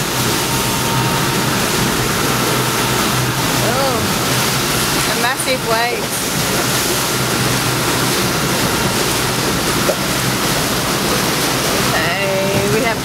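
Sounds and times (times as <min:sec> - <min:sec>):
rough sea rushing and breaking: 0:00.0 - 0:13.0
strong wind: 0:00.0 - 0:13.0.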